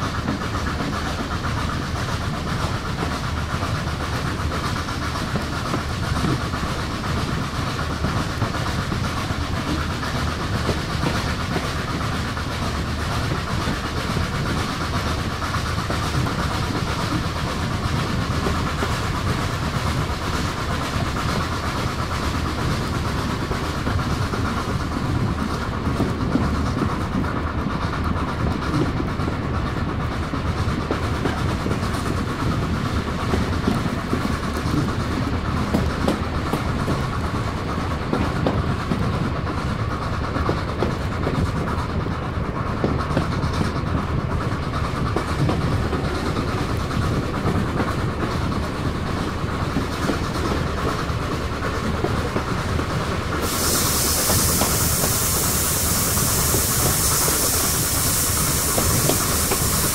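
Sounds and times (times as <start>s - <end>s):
train wheels on track: 0.0s - 59.9s.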